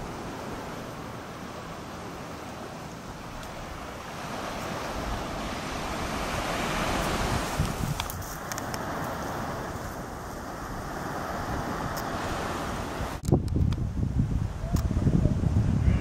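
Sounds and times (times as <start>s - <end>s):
surf washing onto beach: 0.0s - 16.0s
wind on microphone: 3.0s - 16.0s.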